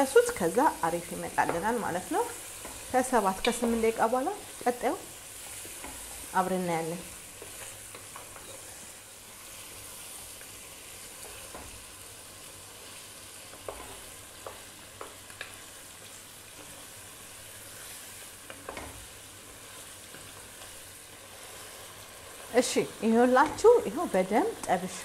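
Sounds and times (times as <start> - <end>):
meat sizzling in a pot: 0.0 - 25.0.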